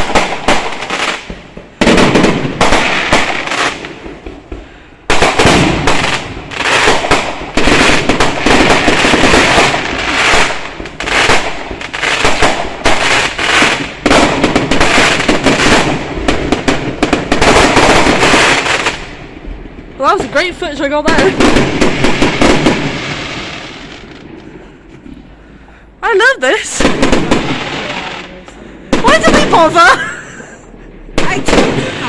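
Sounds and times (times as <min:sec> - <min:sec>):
fireworks bangs and crackles: 0:00.0 - 0:25.4, 0:26.0 - 0:32.0.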